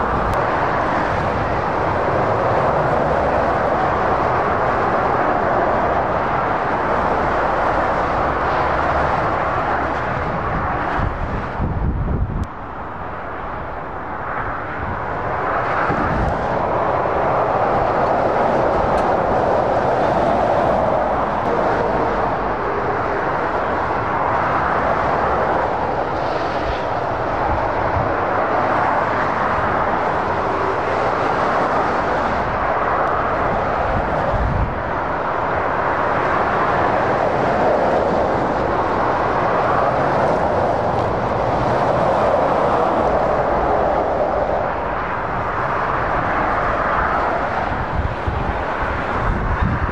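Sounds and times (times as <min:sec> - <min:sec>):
motorway traffic passing: 0:00.0 - 0:49.9.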